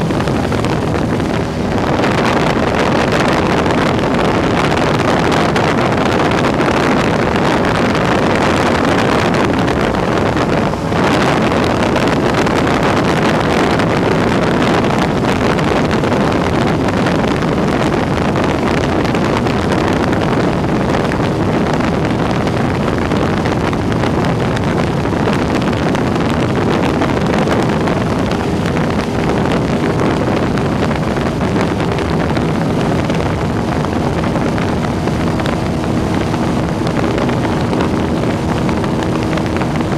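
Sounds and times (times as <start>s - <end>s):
propeller plane engine drone: 0.0s - 39.9s
wind rush: 0.0s - 39.9s.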